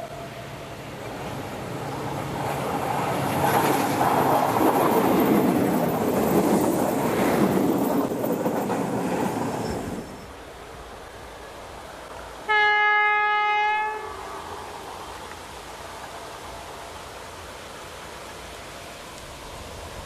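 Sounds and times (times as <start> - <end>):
train passing on rails: 0.0 - 20.0.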